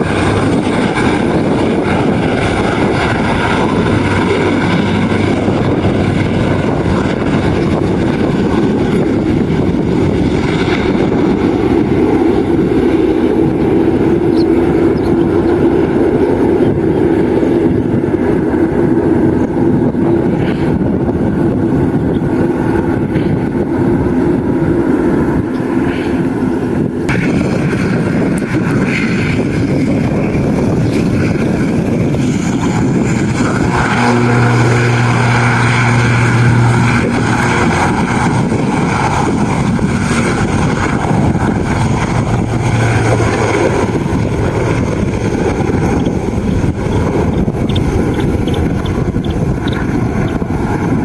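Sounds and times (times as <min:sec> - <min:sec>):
aircraft engines running: 0:00.0 - 0:51.0.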